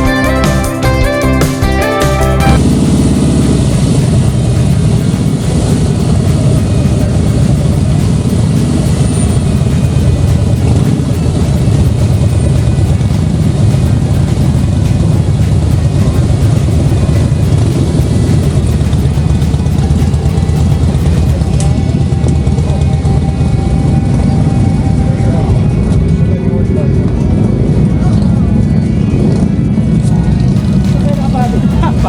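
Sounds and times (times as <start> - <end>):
motorcycle engines rumbling: 0.0 - 32.0.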